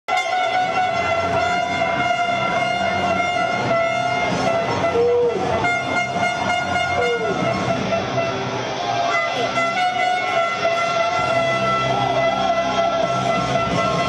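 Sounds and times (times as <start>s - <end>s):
loud steady horn-like tone: 0.1s - 14.0s
noisy background: 0.1s - 14.0s.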